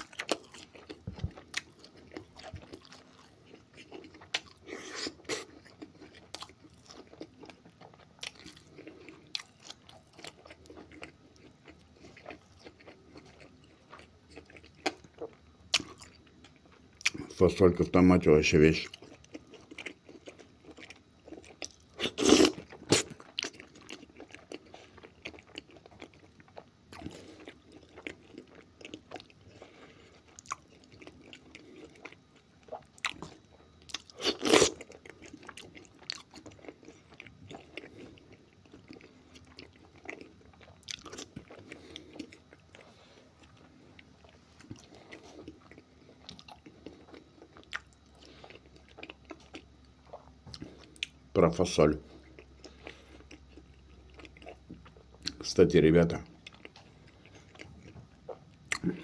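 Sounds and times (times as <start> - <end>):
person chewing: 0.0 - 17.4, 18.8 - 51.2, 52.0 - 55.4, 56.3 - 59.0.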